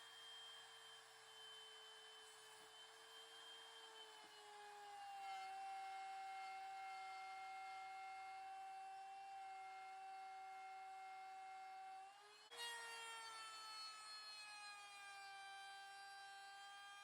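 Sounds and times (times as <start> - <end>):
small electric motor whine: 0.0 - 17.0.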